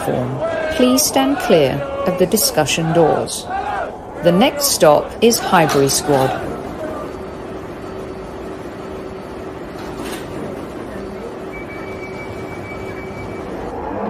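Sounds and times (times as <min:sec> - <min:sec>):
underground train rumbling: 0:00.0 - 0:14.0.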